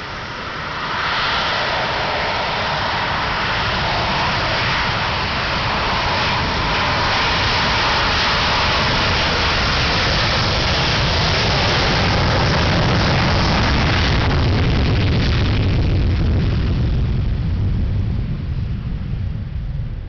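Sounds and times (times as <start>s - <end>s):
jet engines taking off: 0.0s - 20.0s.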